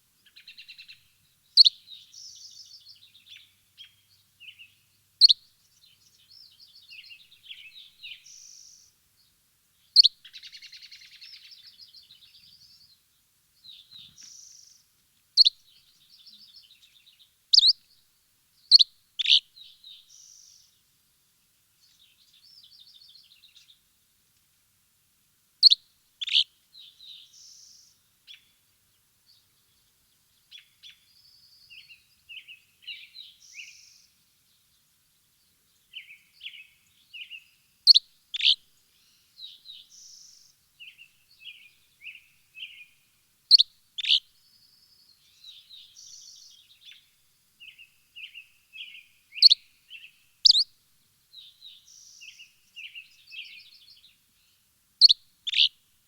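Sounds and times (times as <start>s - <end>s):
small birds chirping: 0.0s - 20.9s, 21.8s - 23.9s, 25.6s - 55.8s.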